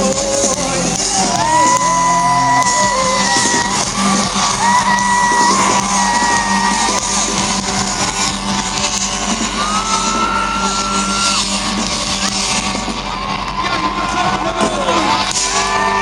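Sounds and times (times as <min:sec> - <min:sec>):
crowd singing and whooping: 0:00.0 - 0:16.0
live band music: 0:00.0 - 0:16.0.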